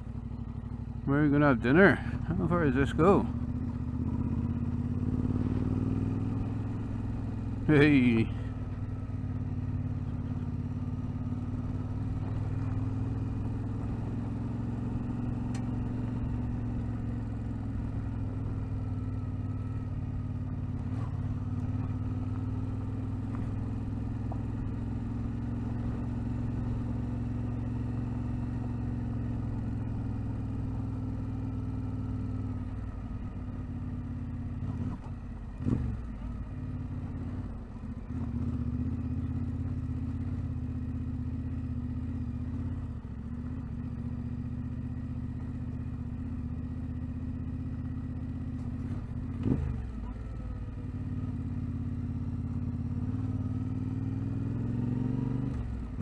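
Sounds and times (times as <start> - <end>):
vehicle engine on dirt track: 0.0 - 56.0.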